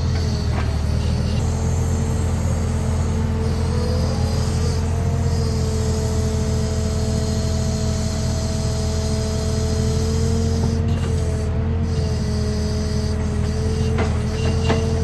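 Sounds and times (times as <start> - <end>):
constant whine: 0.0 - 15.0
heavy diesel truck engine running: 0.0 - 15.0.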